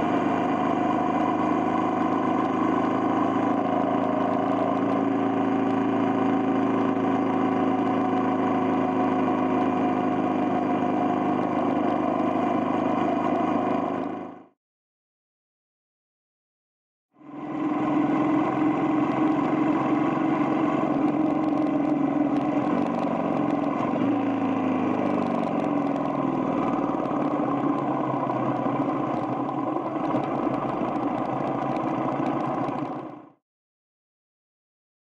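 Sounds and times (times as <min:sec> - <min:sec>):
motorcycle engine running: 0:00.0 - 0:14.5, 0:17.2 - 0:33.4.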